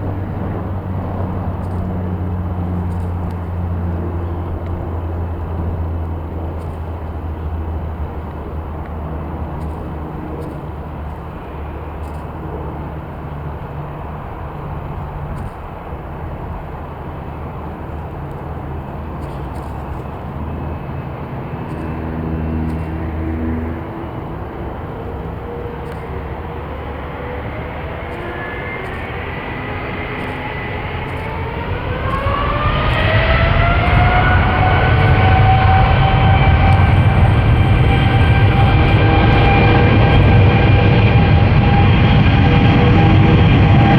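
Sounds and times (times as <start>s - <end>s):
jet engines spooling up: 0.0s - 43.9s
multi-tone engine whine: 0.0s - 43.9s.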